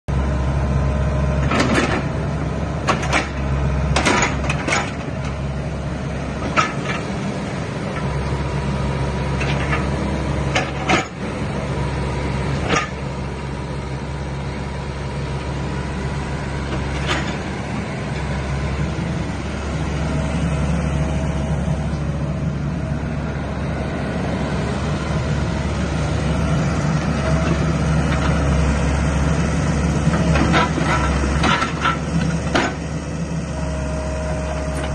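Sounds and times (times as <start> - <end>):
excavator diesel engine: 0.1 - 34.9.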